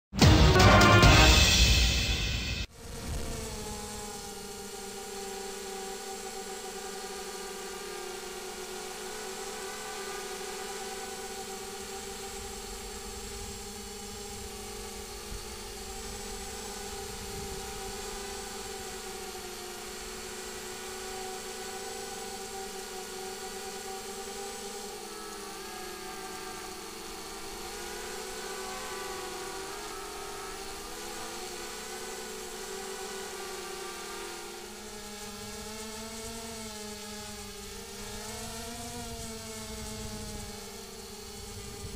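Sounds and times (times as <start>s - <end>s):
drone motors whining: 0.8s - 41.9s.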